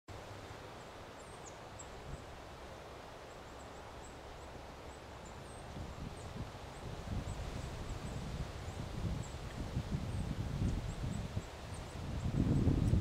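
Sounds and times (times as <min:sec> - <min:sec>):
low hiss and rumble: 0:00.1 - 0:13.0.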